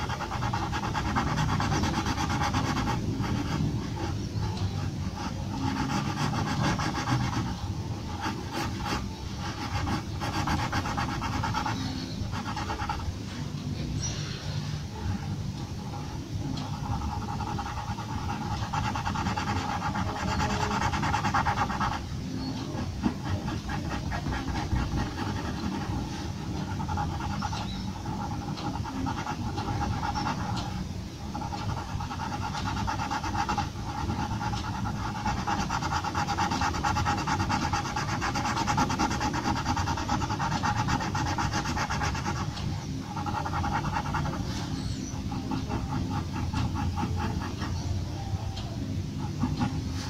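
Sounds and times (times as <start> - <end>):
pencil scratching on paper: 0.0 - 13.4, 15.2 - 48.4, 49.2 - 50.0.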